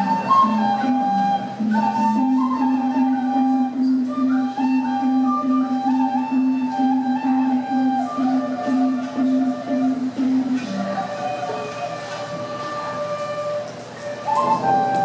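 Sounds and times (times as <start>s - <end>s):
flute melody: 0.0s - 15.0s.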